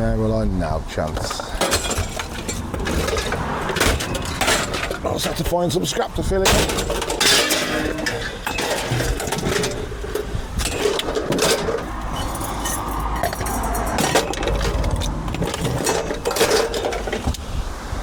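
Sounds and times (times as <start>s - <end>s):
scrap metal clinking and rattling: 1.0s - 17.7s.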